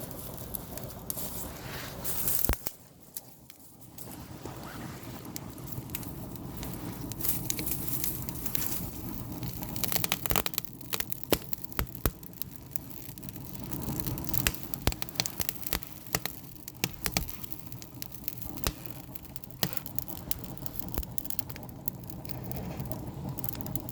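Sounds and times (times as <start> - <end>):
low rush of flame: 0.0 - 23.9
wood crackling and popping: 0.0 - 23.9.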